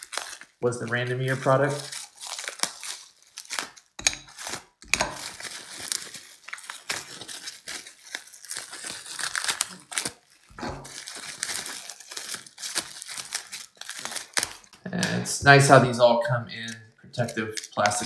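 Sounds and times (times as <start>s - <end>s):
plastic wrapping crinkling: 0.0s - 15.2s, 17.2s - 18.0s.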